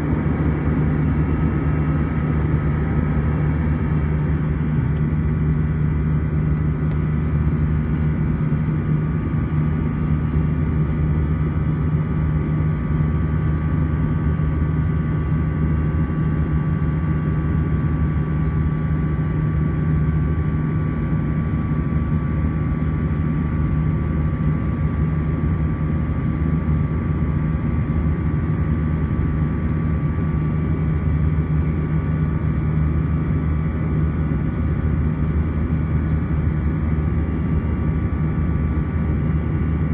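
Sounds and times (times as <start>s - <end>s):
high engine whine: 0.0s - 39.9s
jet engine deep drone: 0.0s - 39.9s.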